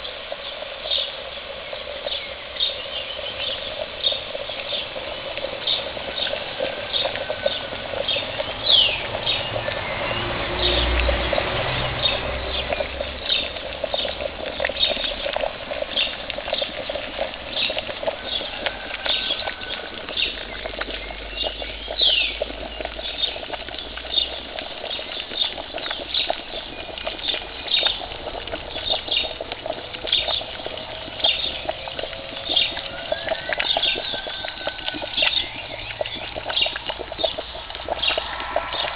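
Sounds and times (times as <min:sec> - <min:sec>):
bubbling with sharp pops: 0:00.0 - 0:38.9.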